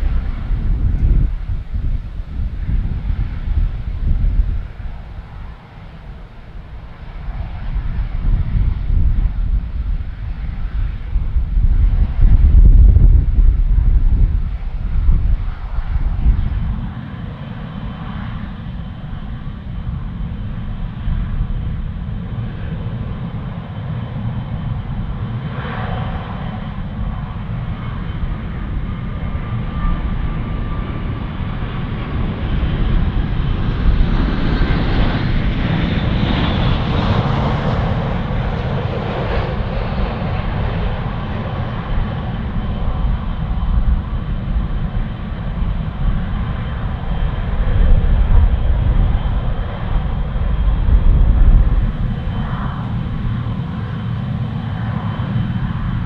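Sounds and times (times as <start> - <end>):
jet engines deep rumble: 0.0 - 56.0.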